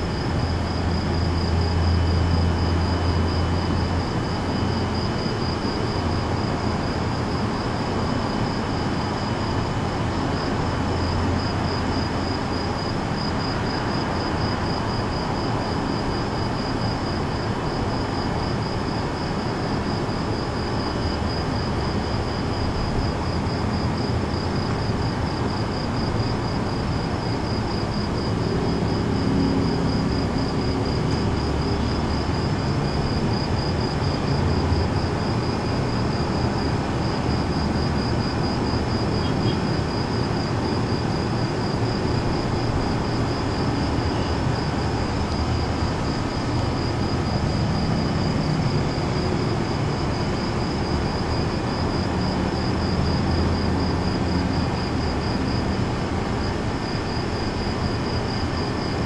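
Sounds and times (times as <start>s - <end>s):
insects chirping: 0.0s - 59.0s
low rumbling background noise: 0.0s - 59.0s.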